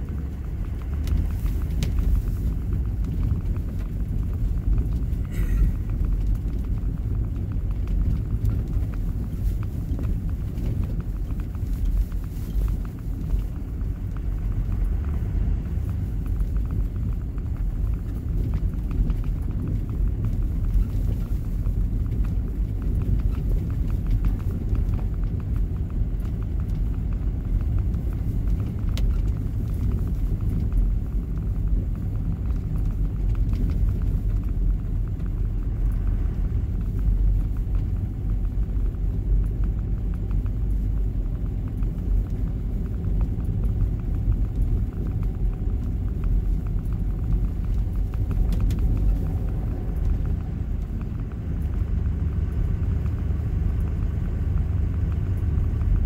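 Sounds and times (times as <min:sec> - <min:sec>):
vehicle driving on snowy road: 0:00.0 - 0:56.0.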